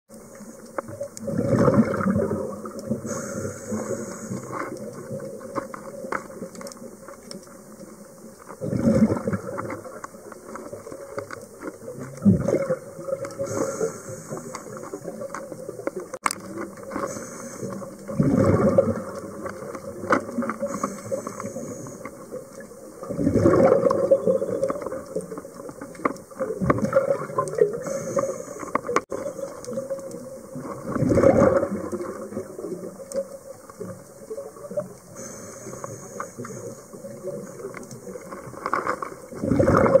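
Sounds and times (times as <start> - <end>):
faint steady hum: 0.1 - 40.0
underwater exhaled bubbles: 0.1 - 40.0.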